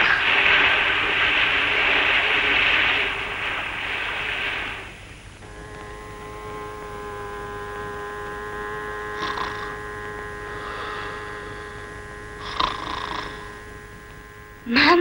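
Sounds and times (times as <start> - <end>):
hood hair dryer humming: 0.0 - 15.0
short noisy bursts: 0.0 - 15.0.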